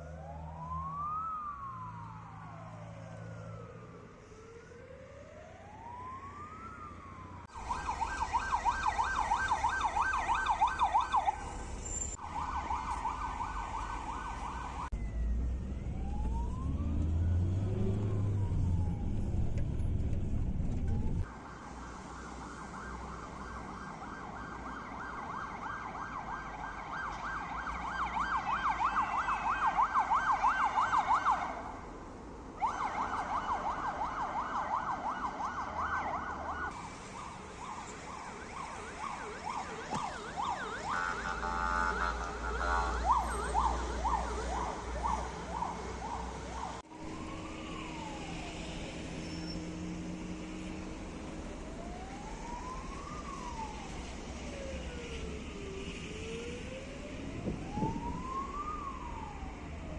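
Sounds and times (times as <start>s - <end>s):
ambulance siren yelp and wail: 0.0s - 59.9s
engine and traffic rumble: 0.0s - 59.9s.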